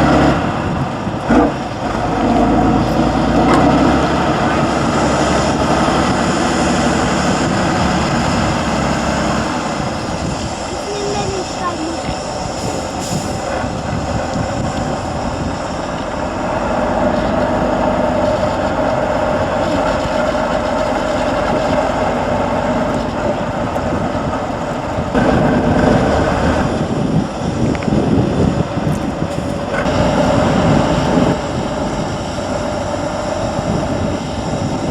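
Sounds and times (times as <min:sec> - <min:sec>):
truck diesel engine under load: 0:00.0 - 0:34.9.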